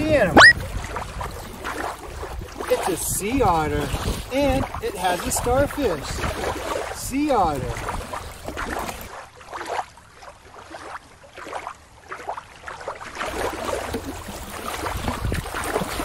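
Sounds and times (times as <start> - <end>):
water lapping and sloshing: 0.0 - 16.0
small water splashes: 0.1 - 3.0, 3.6 - 16.0.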